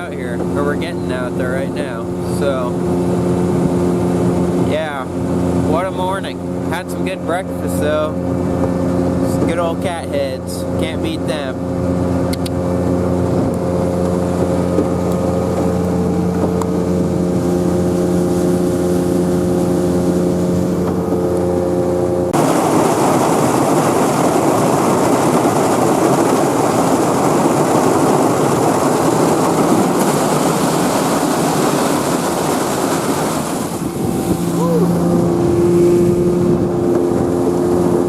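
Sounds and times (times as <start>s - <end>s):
boat motor running: 0.0s - 38.0s
rush of wind and water: 0.0s - 38.0s.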